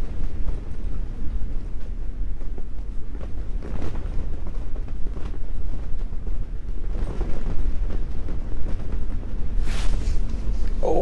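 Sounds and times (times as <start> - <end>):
strong wind buffeting shack: 0.0 - 11.0
fabric rustling: 0.7 - 10.8.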